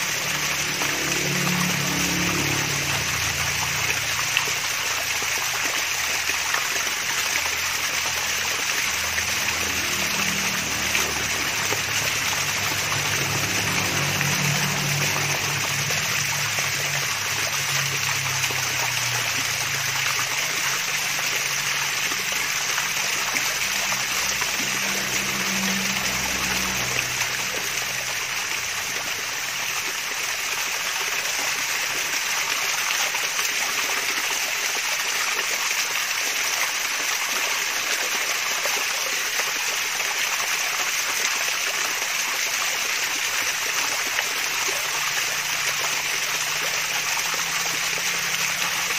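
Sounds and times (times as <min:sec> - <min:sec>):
small waterfall splashing: 0:00.0 - 0:48.9.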